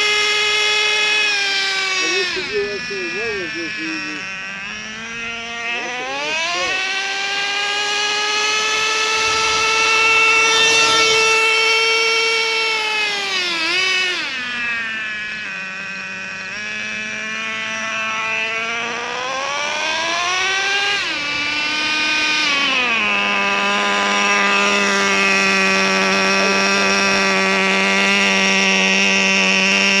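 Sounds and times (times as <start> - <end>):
nitro engine whining: 0.0 - 30.0.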